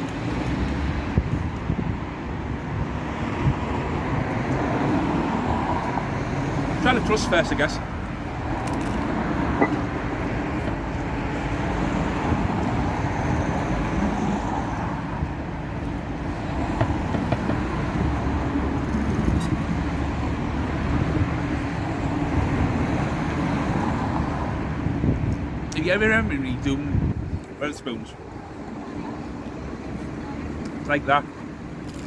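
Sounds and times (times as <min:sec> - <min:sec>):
street traffic hum: 0:00.0 - 0:32.0.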